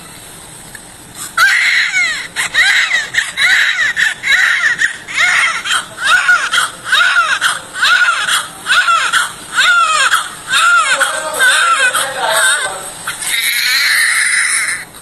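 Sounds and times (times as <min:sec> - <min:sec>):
newborn baby crying: 0:01.2 - 0:14.9.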